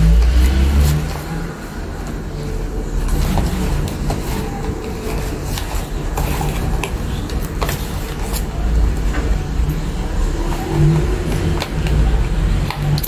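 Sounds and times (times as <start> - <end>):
packaging clicks and rustles: 0.1 - 13.0.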